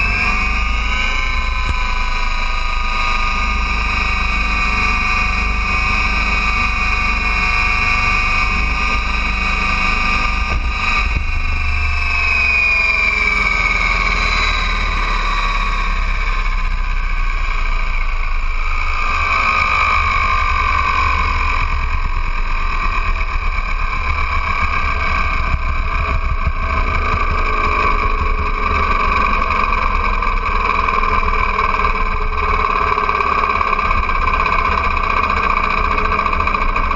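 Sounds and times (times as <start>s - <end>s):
model helicopter high whine: 0.0s - 36.9s
wind rumble on microphone: 0.0s - 36.9s.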